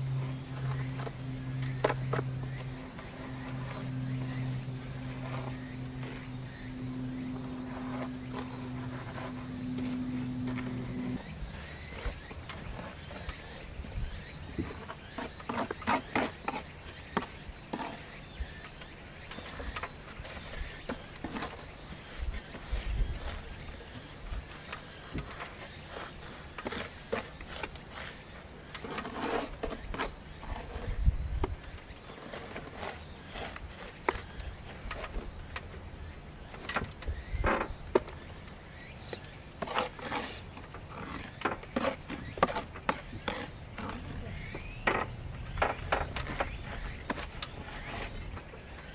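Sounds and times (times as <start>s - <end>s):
trowel scraping mortar: 0.0s - 35.6s, 37.6s - 48.9s.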